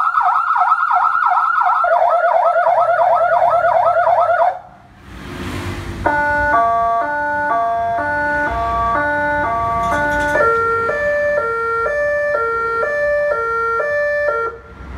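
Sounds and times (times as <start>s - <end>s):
two-tone emergency siren: 0.0s - 4.8s, 6.0s - 14.9s.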